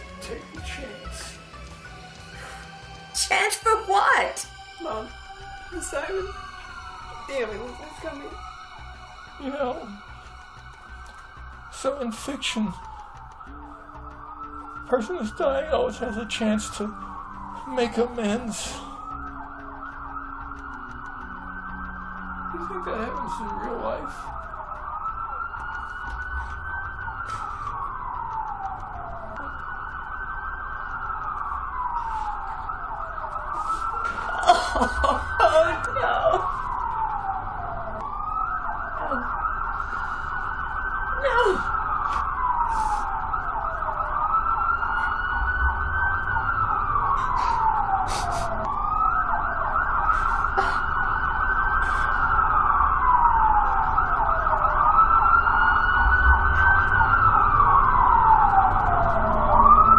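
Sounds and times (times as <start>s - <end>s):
ambulance siren wailing: 0.0s - 59.9s.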